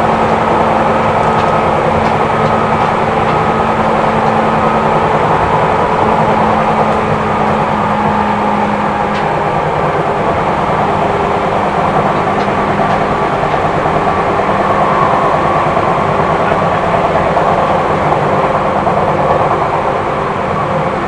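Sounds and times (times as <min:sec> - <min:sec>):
low hum: 0:00.0 - 0:21.0
train wheels and motors rumbling: 0:00.0 - 0:21.0.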